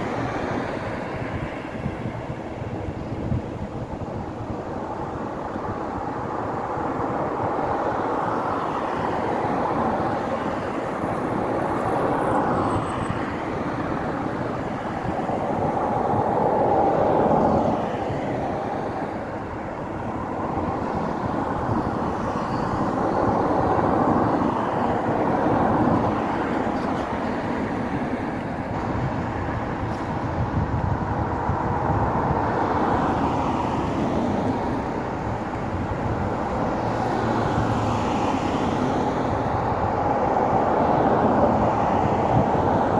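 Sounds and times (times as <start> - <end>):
cars passing on wet road: 0.0 - 42.9.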